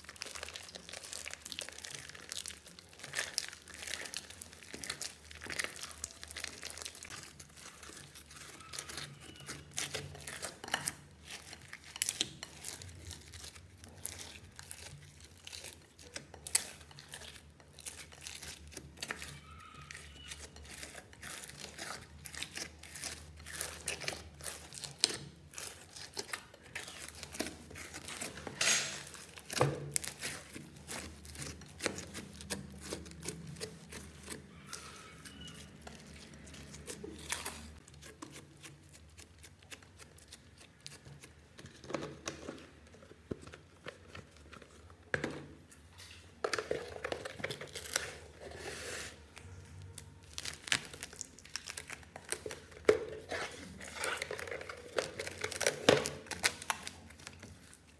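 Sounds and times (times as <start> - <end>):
slime crackling and popping: 0.0 - 41.4, 49.2 - 57.9.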